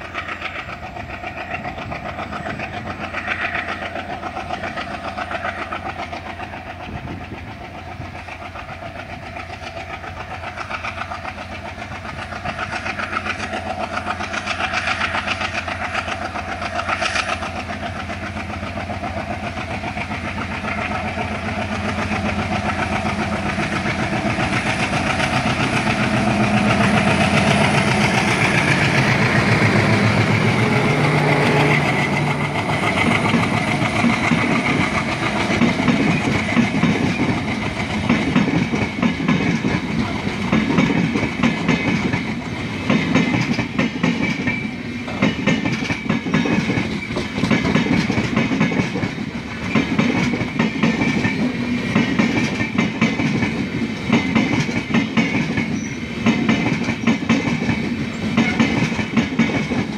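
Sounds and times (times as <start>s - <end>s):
diesel locomotive engine chugging: 0.0s - 59.9s
train wheels clattering over rail joints: 0.0s - 59.9s.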